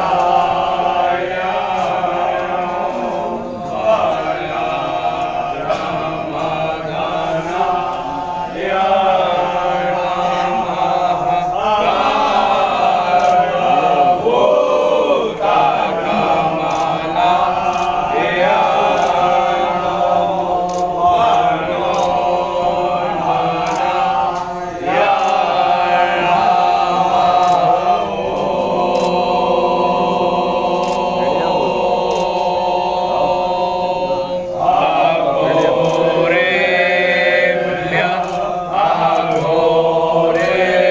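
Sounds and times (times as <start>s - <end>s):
men chanting together: 0.0s - 40.9s.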